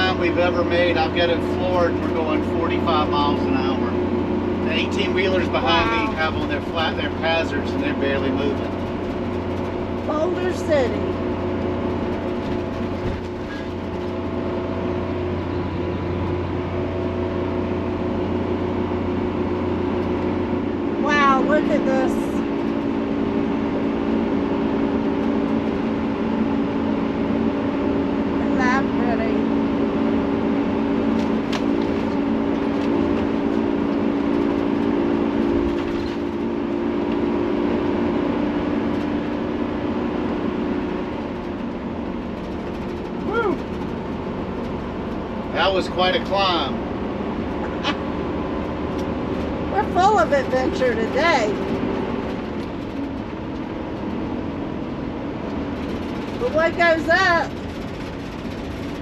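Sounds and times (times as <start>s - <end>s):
constant low hum: 0.0s - 59.0s
engine drone at full throttle: 0.0s - 59.0s
road and tyre noise: 0.0s - 59.0s.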